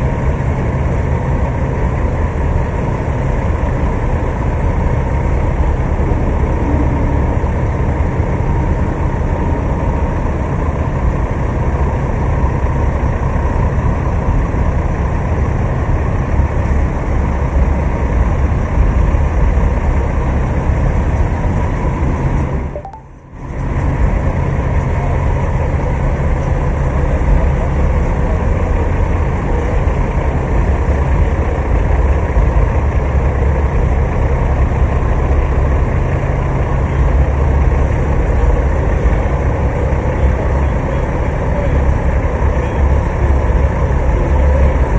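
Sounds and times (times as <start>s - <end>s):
heavy truck engine idling: 0.0s - 44.9s.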